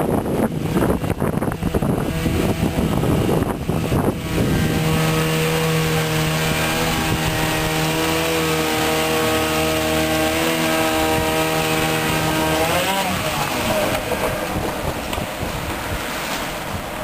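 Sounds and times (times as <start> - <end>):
boat motor running: 0.0 - 17.0
wind buffeting microphone: 0.0 - 17.0.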